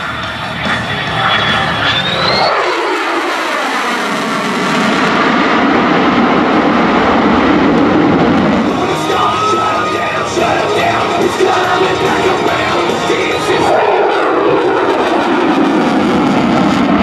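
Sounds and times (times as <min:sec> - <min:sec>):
jet engine roaring in afterburner: 0:00.0 - 0:17.0.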